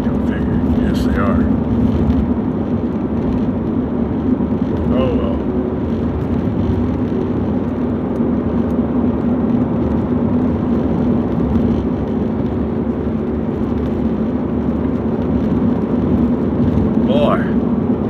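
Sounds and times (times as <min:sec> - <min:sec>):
car tyre rumble with low drone: 0:00.0 - 0:18.0.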